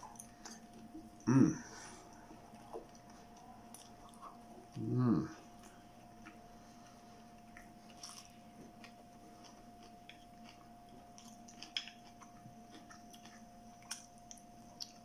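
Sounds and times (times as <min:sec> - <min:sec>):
faint chewing of food: 0:00.0 - 0:15.0
faint steady hum: 0:00.0 - 0:15.0.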